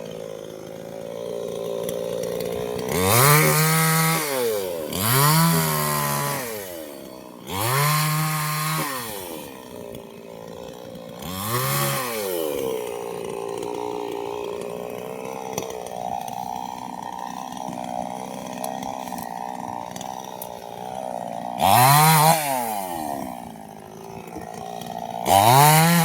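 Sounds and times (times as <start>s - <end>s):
chainsaw engine idling and revving: 0.0s - 26.0s.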